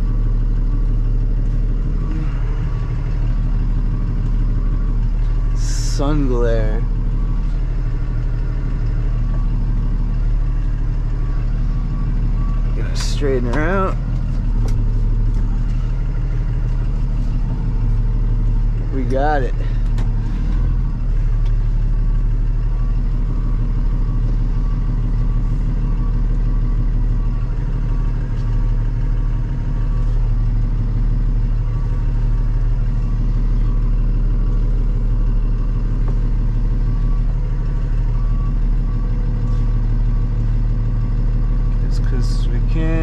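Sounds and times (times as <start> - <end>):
reverse alarm beeping: 0.0 - 19.8, 20.8 - 43.0
truck engine idling: 0.0 - 43.0.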